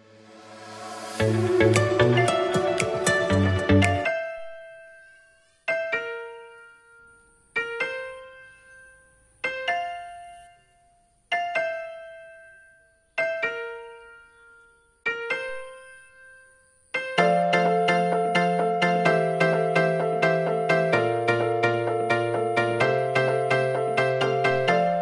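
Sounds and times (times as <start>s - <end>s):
keyboard chords ringing out: 0.2s - 25.0s.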